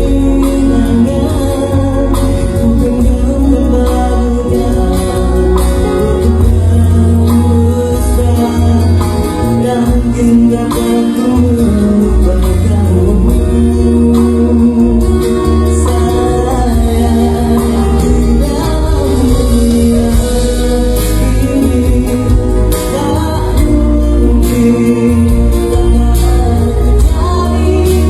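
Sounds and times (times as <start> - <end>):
pop ballad with singing: 0.0 - 28.0.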